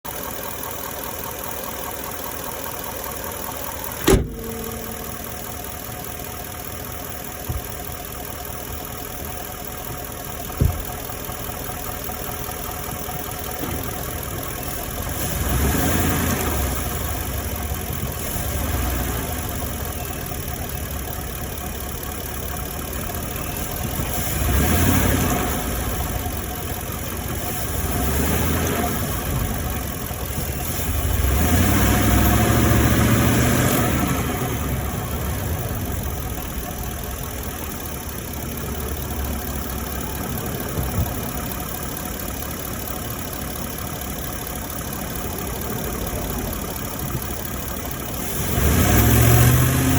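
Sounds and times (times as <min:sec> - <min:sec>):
engine knocking: 0:00.0 - 0:49.9
truck engine running: 0:00.0 - 0:49.9.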